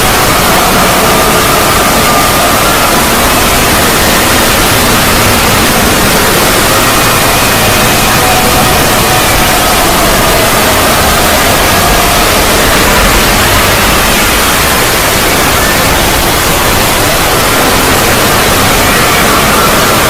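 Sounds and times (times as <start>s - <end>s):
faint wavering tones: 0.0s - 20.0s
static-like hiss: 0.0s - 20.0s.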